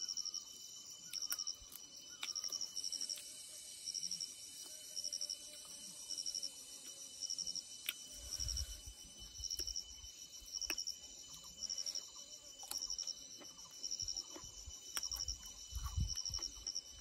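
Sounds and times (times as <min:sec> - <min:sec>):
cricket chirping trills: 0:00.0 - 0:17.0.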